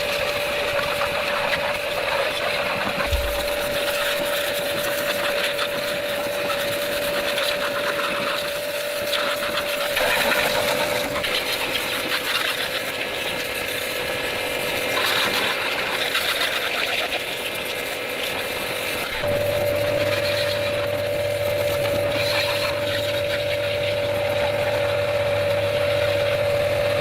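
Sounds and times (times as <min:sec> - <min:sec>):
steady whine: 0:00.0 - 0:27.0.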